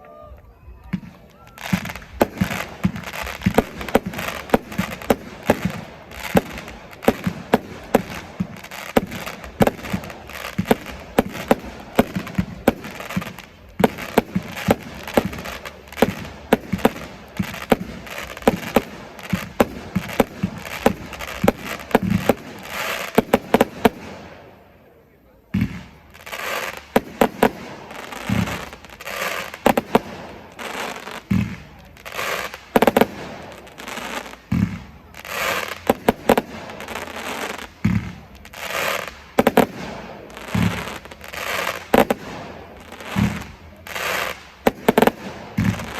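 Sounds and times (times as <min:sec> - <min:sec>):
fireworks bangs: 0:00.0 - 0:45.9
fireworks crackle and hiss: 0:00.0 - 0:45.9.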